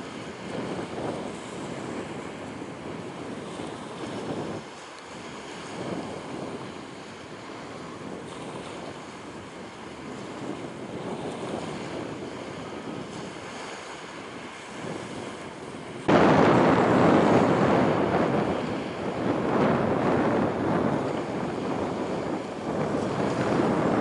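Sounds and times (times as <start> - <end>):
rushing water: 0.0 - 24.0
wind buffeting the microphone: 0.0 - 24.0.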